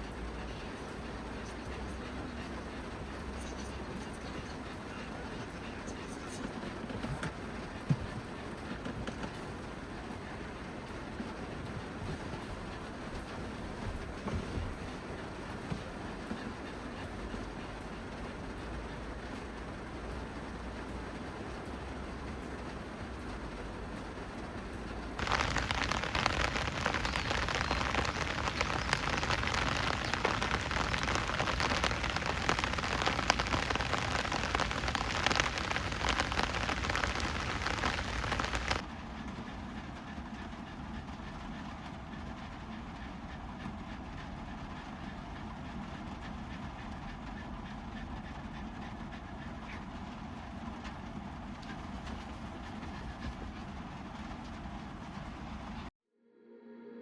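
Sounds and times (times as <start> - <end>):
heavy rain drumming on a roof: 0.0 - 55.9.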